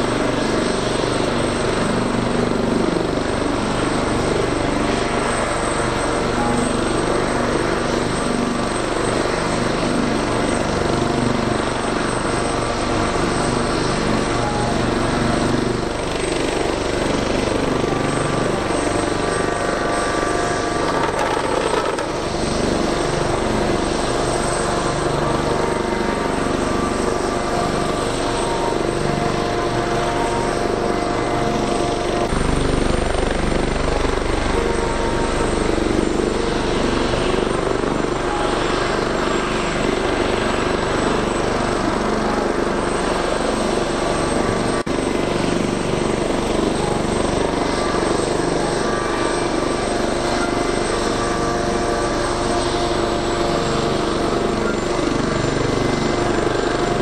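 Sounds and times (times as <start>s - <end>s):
helicopter engines whining: 0.0s - 57.0s
helicopter rotors beating: 0.0s - 57.0s.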